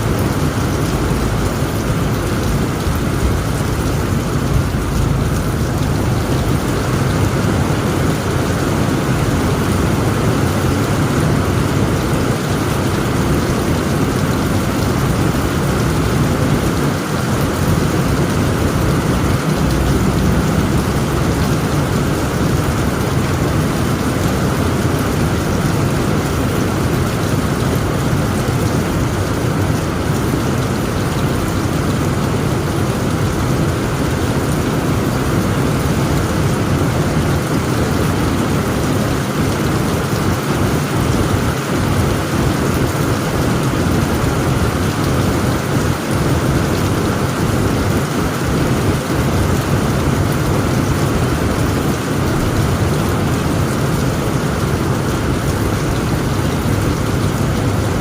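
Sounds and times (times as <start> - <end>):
rain drumming on a tent roof: 0.0 - 58.0.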